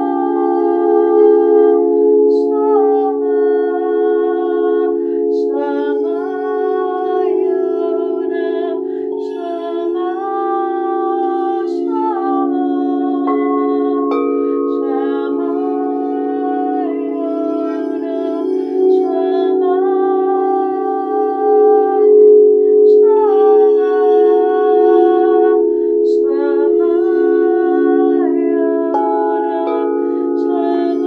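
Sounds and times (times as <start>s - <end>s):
person singing wordless notes: 0.0s - 31.0s
singing bowls droning: 0.0s - 31.0s.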